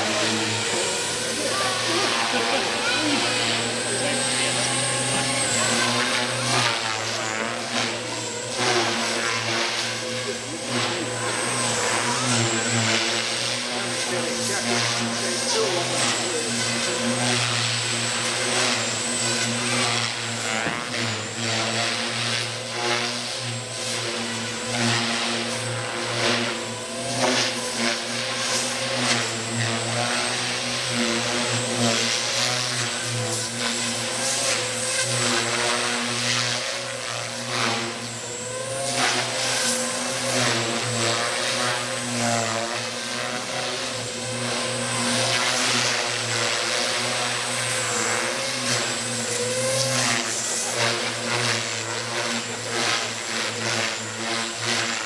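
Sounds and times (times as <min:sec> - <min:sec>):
rc helicopter motor whine: 0:00.0 - 0:55.0
rotor blades whooshing: 0:00.0 - 0:55.0.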